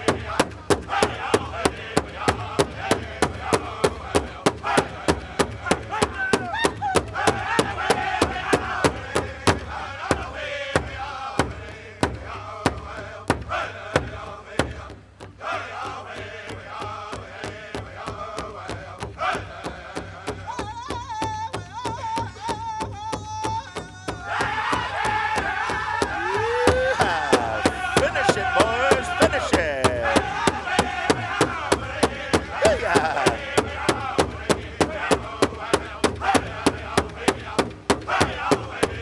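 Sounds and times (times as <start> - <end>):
large drum beating: 0.0 - 39.0
men singing in high voices: 0.0 - 39.0.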